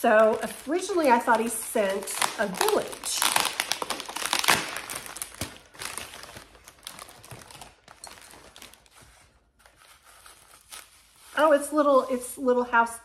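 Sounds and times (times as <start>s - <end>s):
packaging wrap crinkling: 0.0s - 11.8s.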